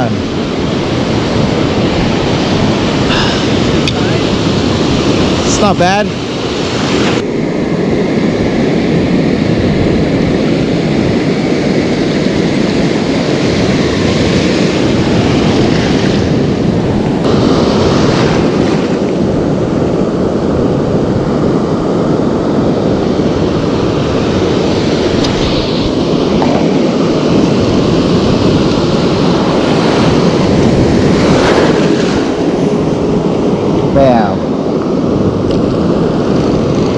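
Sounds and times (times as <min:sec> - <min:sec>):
ocean surf breaking: 0:00.0 - 0:36.9.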